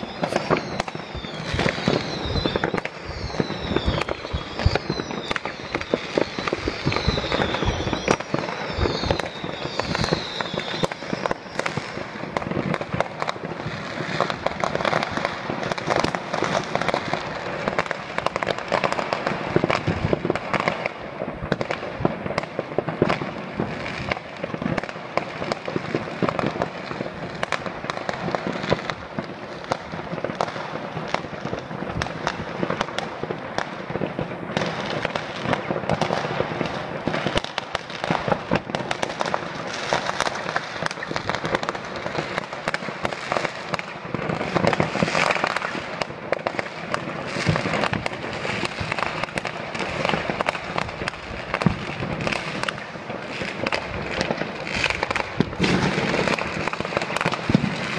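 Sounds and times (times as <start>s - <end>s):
fireworks crackling and banging: 0.0s - 57.9s.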